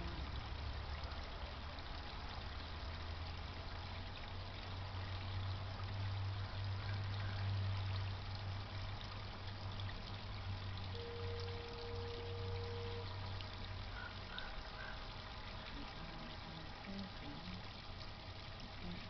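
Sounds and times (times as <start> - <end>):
low steady hum: 0.0 - 19.0
water trickling and splashing: 0.0 - 19.0.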